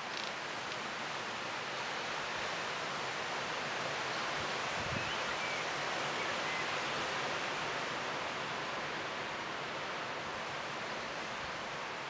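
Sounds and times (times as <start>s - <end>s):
leaves rustling in wind: 0.0s - 12.0s.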